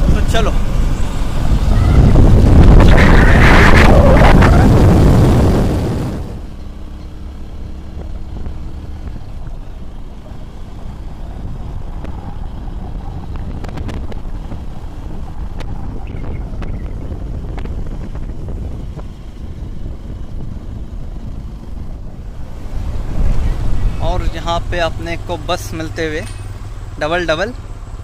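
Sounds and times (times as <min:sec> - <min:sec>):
wind rushing over microphone: 0:00.0 - 0:10.1, 0:10.7 - 0:25.7
motorcycle engine rumble: 0:00.0 - 0:28.0.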